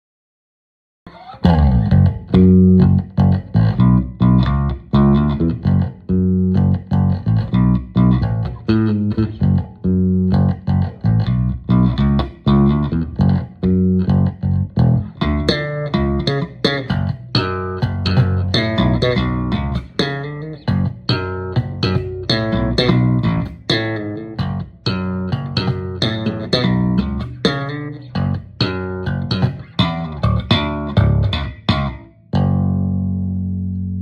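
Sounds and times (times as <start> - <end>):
electric bass guitar plucked notes: 1.1 - 34.0.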